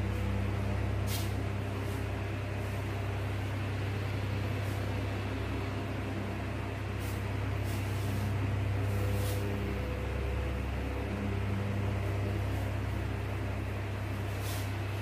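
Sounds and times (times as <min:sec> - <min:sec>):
low electrical hum with hiss: 0:00.0 - 0:15.0.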